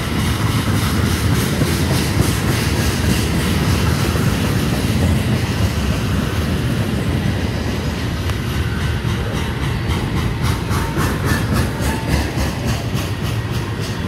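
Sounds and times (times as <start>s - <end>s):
steel wheels rumbling on rail: 0.0s - 14.0s.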